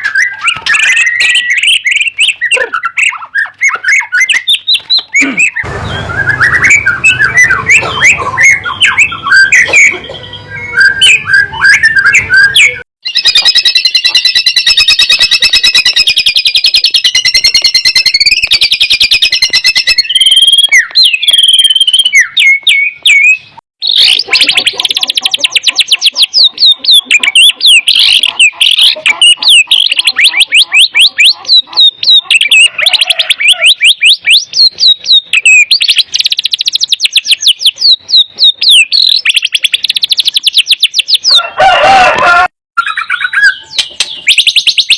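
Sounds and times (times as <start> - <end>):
bird singing whistled phrases: 0.0 - 24.6, 25.4 - 41.4, 42.8 - 44.9.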